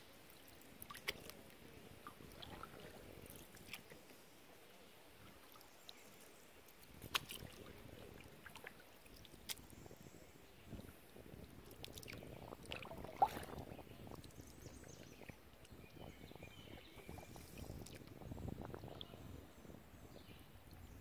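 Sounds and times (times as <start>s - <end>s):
water and paddle noise: 0.0s - 21.0s.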